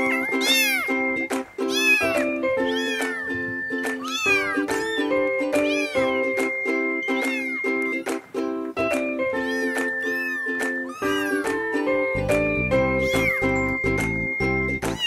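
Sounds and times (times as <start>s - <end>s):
kittens mewing: 0.0s - 8.0s, 9.0s - 13.8s
background music: 0.0s - 15.0s.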